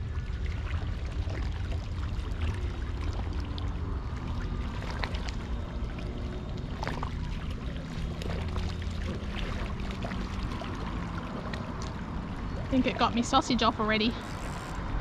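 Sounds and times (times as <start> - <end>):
low rumble: 0.0 - 15.0
sea water washing around rocks: 0.0 - 15.0.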